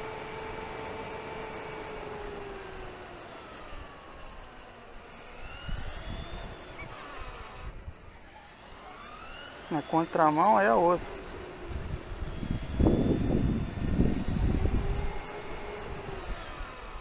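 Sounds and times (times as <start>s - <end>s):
drivetrain and tyre rumble: 0.0s - 17.0s
electric motor whine: 0.0s - 17.0s.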